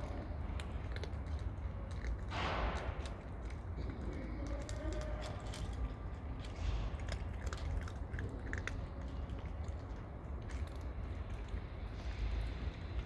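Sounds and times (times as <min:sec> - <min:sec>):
cats chewing crunchy food: 0:00.0 - 0:13.0
low steady rumble: 0:00.0 - 0:13.0.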